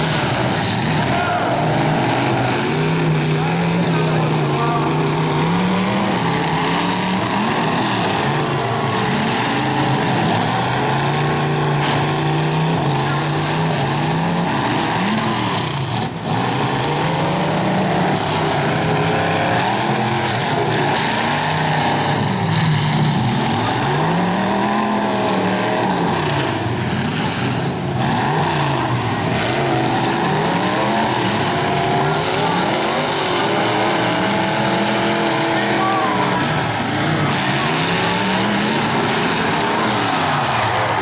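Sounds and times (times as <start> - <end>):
car engines revving hard: 0.0 - 41.0.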